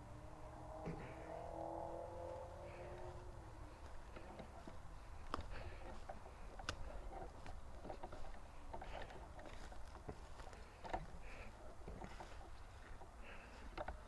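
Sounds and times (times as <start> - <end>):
light rustling: 2.6 - 14.0.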